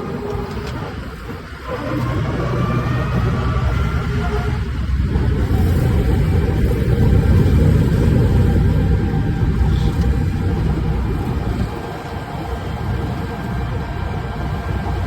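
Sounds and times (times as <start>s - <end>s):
combine harvester diesel engine rumble: 0.0s - 15.0s.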